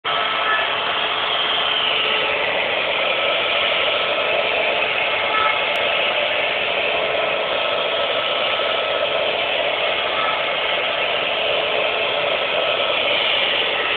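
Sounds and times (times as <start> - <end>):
machine tool whirring: 0.1 - 13.9.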